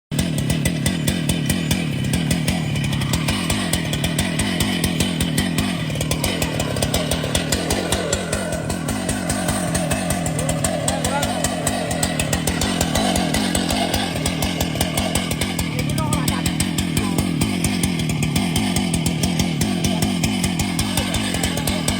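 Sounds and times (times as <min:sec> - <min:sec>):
chainsaw engine running: 0:00.1 - 0:21.9.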